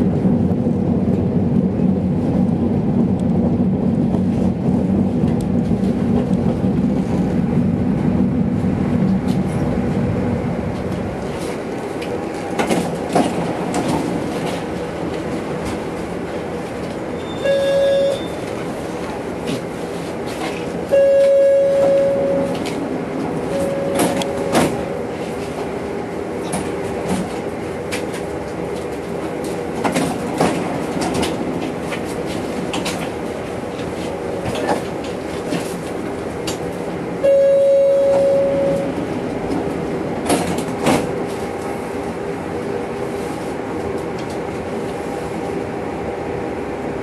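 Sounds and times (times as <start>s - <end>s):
tram electrical hum: 0.0s - 47.0s.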